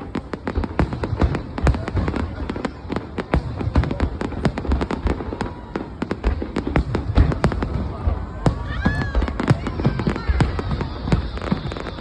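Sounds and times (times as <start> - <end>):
deep fireworks booms: 0.0 - 12.0
fireworks bangs and crackles: 0.0 - 12.0.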